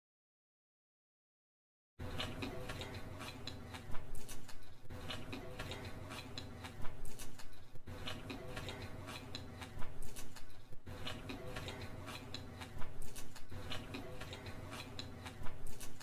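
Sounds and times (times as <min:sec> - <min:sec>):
chewing with wet clicking: 0:02.0 - 0:16.0.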